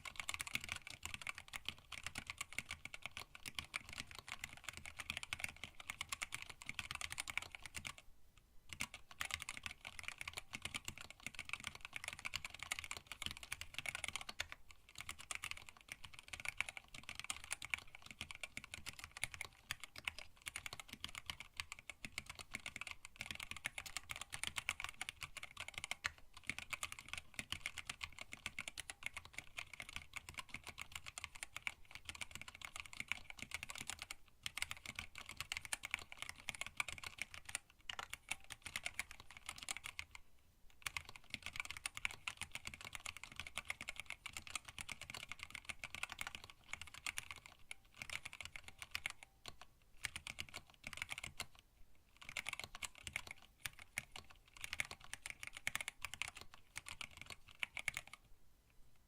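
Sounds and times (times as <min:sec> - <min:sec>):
fast typing on mechanical keyboard: 0:00.0 - 0:08.0, 0:08.7 - 0:40.2, 0:40.8 - 0:58.3.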